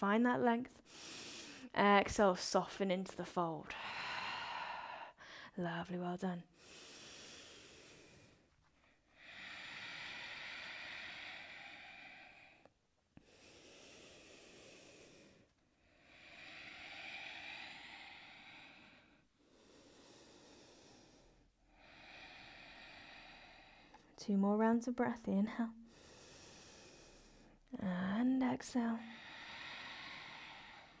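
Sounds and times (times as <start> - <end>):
woman breathing slowly: 0.8 - 1.7, 3.6 - 5.6, 6.4 - 24.2, 25.0 - 31.0.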